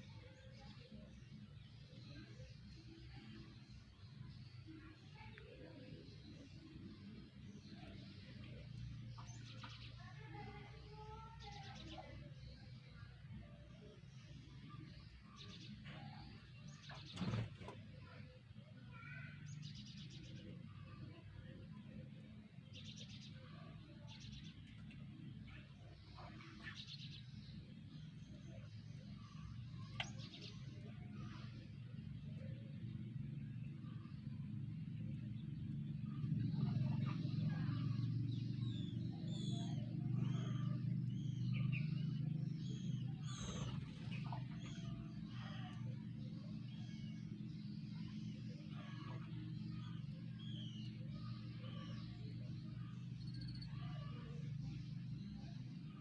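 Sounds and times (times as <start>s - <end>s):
birds chirping high: 0.0s - 56.0s
steady low hum: 0.0s - 56.0s.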